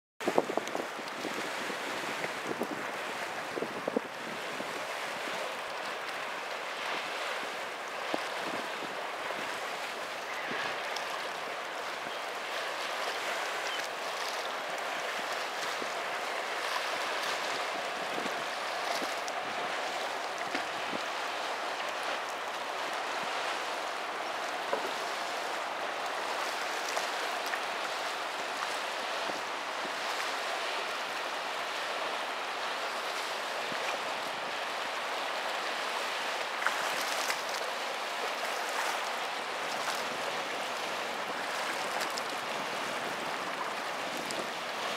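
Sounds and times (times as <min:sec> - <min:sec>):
river water rushing: 0:00.2 - 0:44.9.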